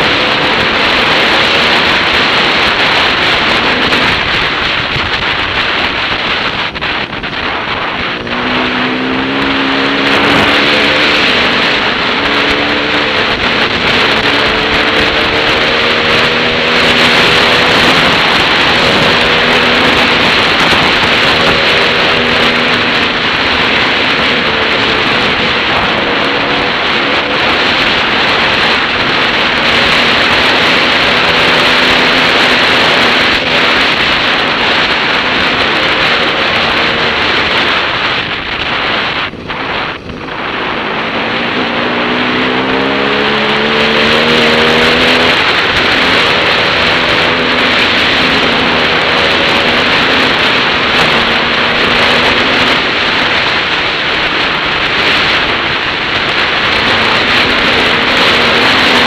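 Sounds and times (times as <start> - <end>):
dirt bike engine: 0.0 - 59.0
heavy wind noise on microphone: 0.0 - 59.0.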